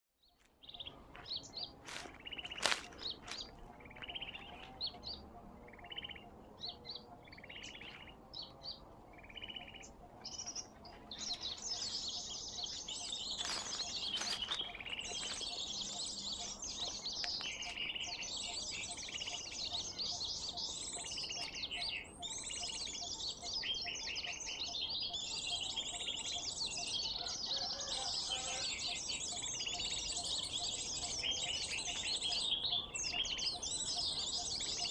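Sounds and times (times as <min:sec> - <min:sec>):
bird chirping and twittering: 0:00.2 - 0:34.9.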